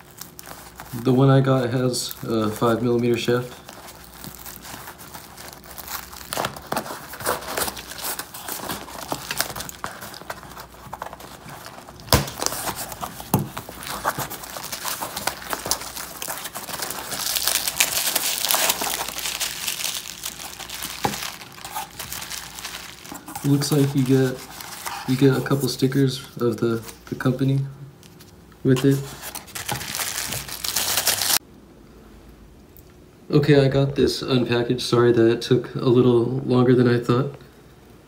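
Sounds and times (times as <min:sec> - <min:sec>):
bubble wrap crinkling: 0:00.0 - 0:31.4
cardboard rustling: 0:00.0 - 0:31.4.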